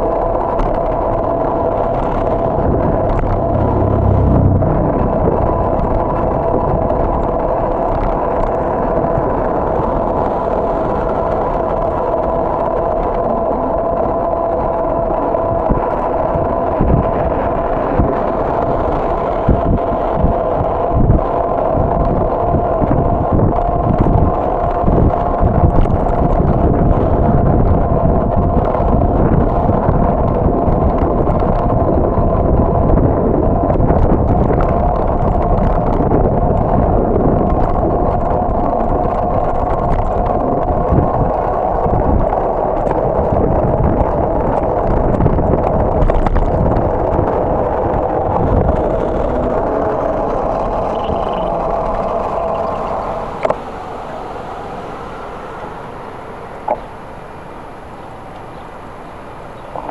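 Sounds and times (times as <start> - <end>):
bicycle rolling over asphalt: 0.0 - 53.8
steady hum: 0.0 - 59.9
wind on microphone: 0.0 - 59.9.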